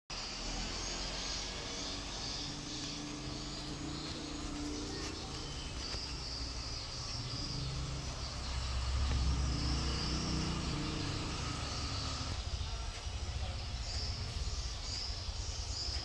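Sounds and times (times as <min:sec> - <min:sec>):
wall fan running: 0:00.1 - 0:16.0.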